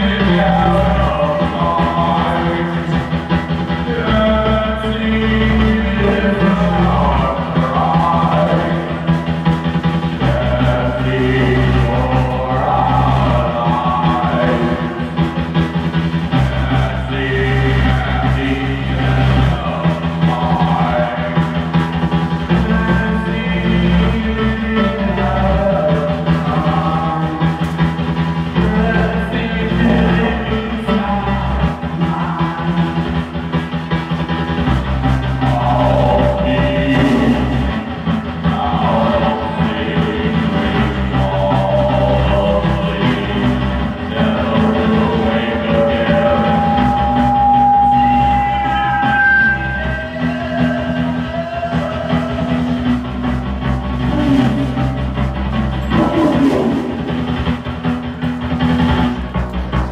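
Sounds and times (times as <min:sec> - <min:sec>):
person singing: 0:00.0 - 0:33.9, 0:35.3 - 0:55.2, 0:55.8 - 0:57.8
rock band playing live: 0:00.0 - 0:59.9.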